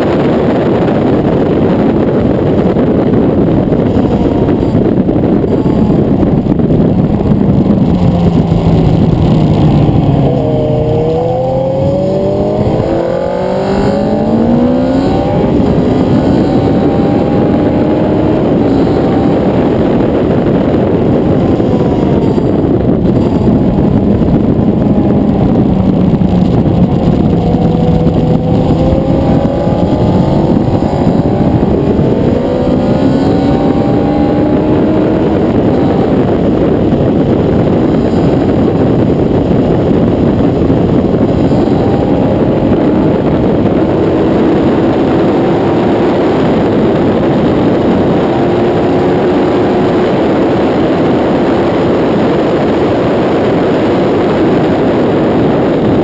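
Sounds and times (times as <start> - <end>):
motorcycle engine accelerating: 0.0 - 56.0
wind rush on microphone: 0.0 - 56.0.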